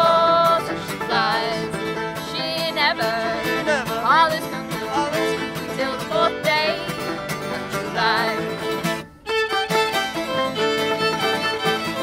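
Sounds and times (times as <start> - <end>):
acoustic guitar: 0.0 - 12.0
banjo: 0.0 - 12.0
fiddle: 0.0 - 12.0.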